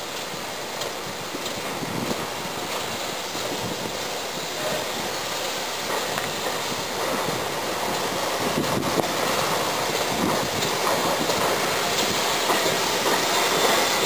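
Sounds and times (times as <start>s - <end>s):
steam locomotive running: 0.0s - 14.0s.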